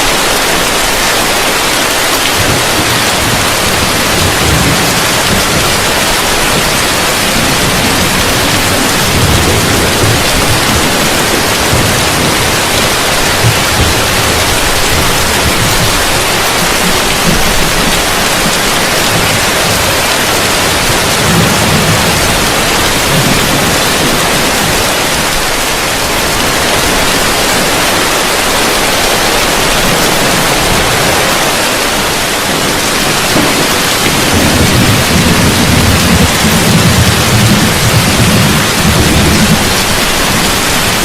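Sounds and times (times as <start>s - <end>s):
heavy rain on a roof: 0.0s - 41.0s
thunder rumbling: 0.1s - 41.0s.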